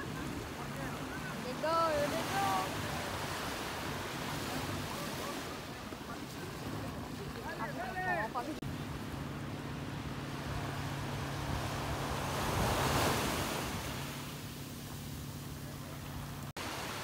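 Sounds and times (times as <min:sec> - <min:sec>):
low motor hum: 0:00.0 - 0:16.5
sea water rushing: 0:00.0 - 0:17.0
wind: 0:00.0 - 0:17.0.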